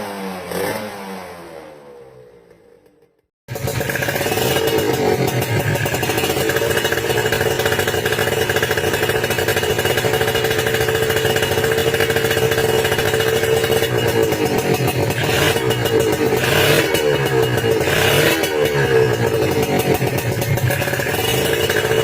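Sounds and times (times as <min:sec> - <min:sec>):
two-stroke motorcycle engine running: 0:02.8 - 0:22.0.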